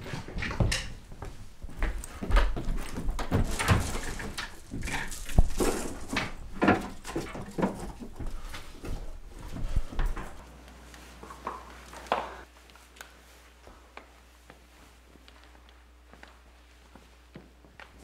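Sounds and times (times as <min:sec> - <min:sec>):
rustling: 0:01.2 - 0:18.0.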